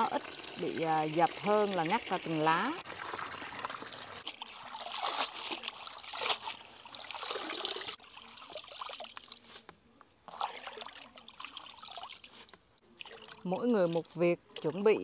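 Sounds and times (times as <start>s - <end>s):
water trickling and dripping: 0.0s - 9.5s, 10.2s - 15.0s
water sloshing splashes: 0.0s - 9.6s, 10.2s - 15.0s.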